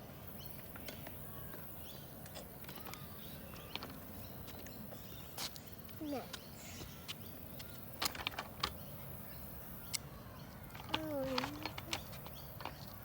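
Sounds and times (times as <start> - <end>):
birds chirping faintly: 0.3 - 13.0.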